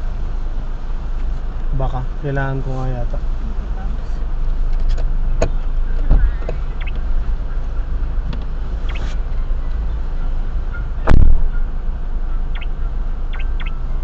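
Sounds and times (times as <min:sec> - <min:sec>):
car rumble from inside cabin: 0:00.0 - 0:14.0.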